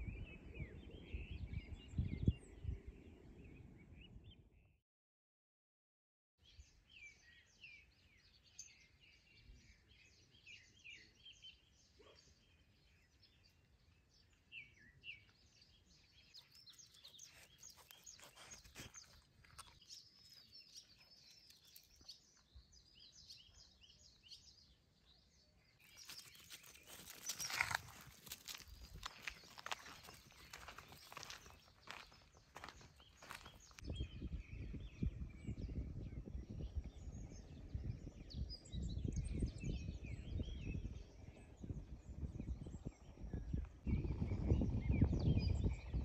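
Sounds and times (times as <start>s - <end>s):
songbirds chirping: 6.4s - 46.0s.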